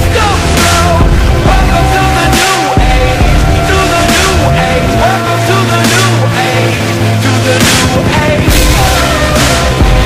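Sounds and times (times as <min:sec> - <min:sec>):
loud soundtrack music: 0:00.0 - 0:10.0.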